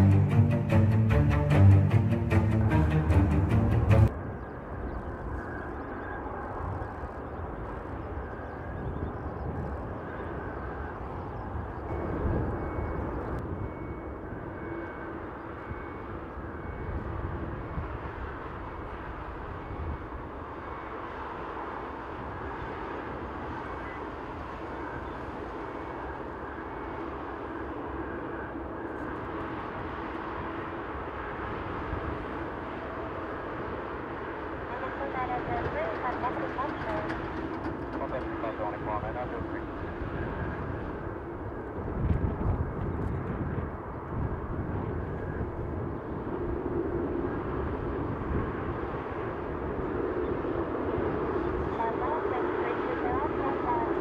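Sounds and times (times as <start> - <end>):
jet engines at taxi power: 0.0 - 54.0.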